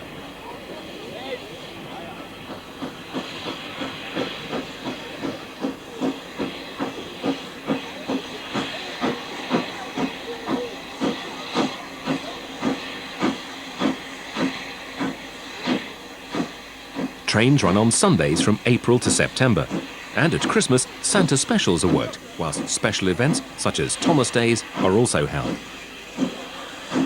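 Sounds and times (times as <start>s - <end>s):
steam hissing: 0.0s - 27.0s
steam locomotive exhaust beats: 0.0s - 27.0s.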